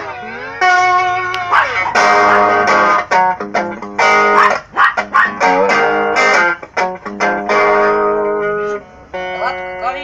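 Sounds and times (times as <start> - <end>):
electric guitar notes and chords: 0.0 - 10.0.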